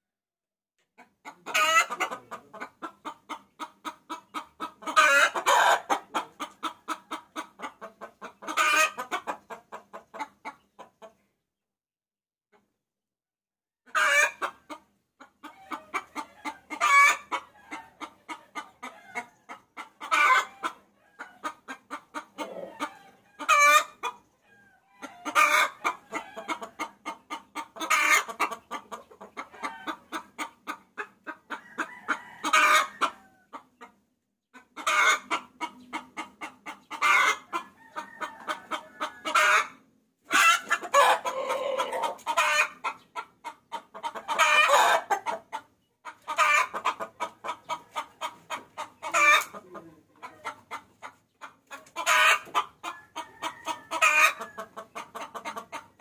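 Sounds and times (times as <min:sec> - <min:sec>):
hen cackling: 0:01.0 - 0:10.9, 0:13.9 - 0:33.9, 0:34.5 - 0:56.0.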